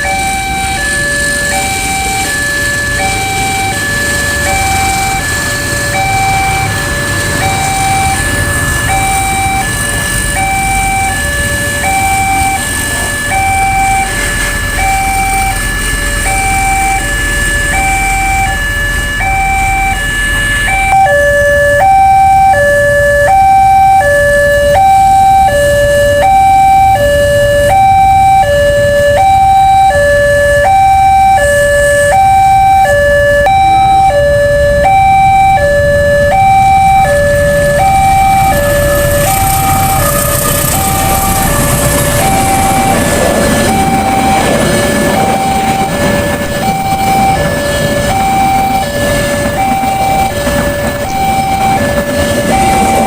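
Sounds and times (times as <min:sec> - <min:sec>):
level crossing alarm two-tone: 0:00.0 - 0:53.0
traffic rumble: 0:00.0 - 0:53.0.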